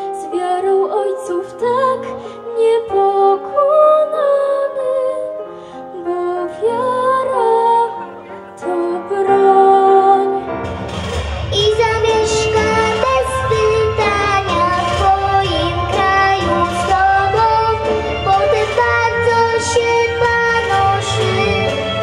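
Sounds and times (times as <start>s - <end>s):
girl singing into a microphone: 0.0s - 10.4s, 11.5s - 21.9s
instrumental backing music: 0.0s - 22.0s.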